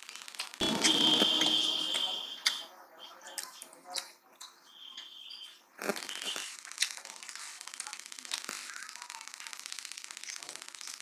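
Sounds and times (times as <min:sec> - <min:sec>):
crackling of chewing food: 0:01.3 - 0:11.0.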